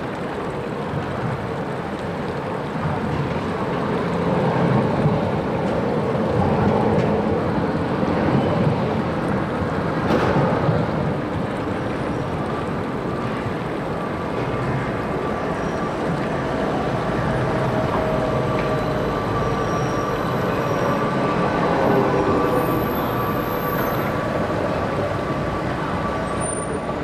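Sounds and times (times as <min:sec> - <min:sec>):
trams rumbling past with whine: 0:00.0 - 0:27.0.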